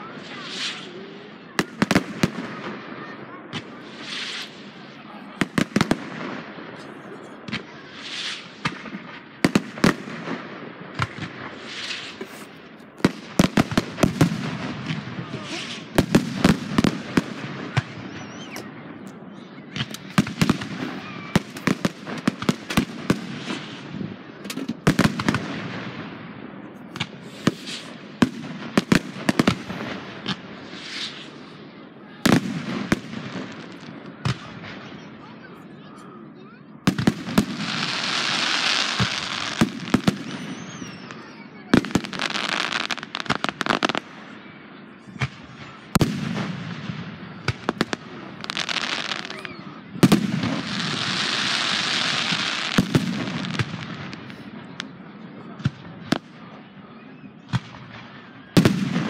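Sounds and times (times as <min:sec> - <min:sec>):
fireworks crackling: 0:00.0 - 0:36.2, 0:36.8 - 0:56.6, 0:57.5 - 0:59.0
fireworks bangs: 0:00.0 - 0:56.7, 0:57.4 - 0:59.0.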